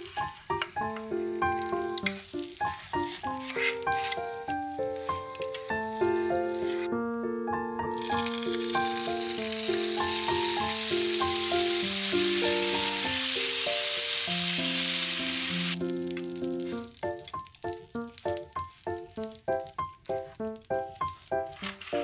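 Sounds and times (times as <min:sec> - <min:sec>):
sauce sizzling in frying pan: 0:00.0 - 0:06.9, 0:07.9 - 0:22.0.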